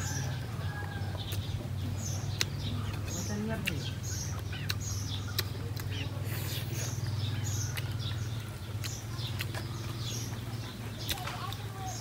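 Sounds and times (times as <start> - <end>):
chewing and smacking mouth sounds: 0.0 - 12.0.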